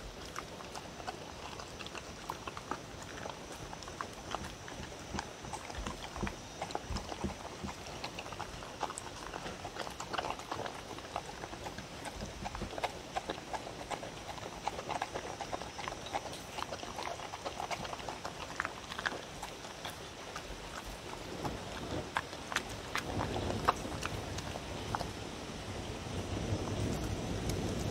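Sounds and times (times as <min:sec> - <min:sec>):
teeth clicking against bowl: 0:00.0 - 0:25.1
dog crunching and chewing food: 0:00.0 - 0:25.5, 0:26.4 - 0:27.9.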